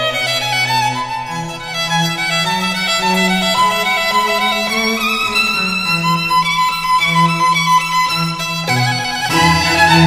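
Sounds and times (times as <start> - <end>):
violin melody in held notes: 0.0 - 10.0.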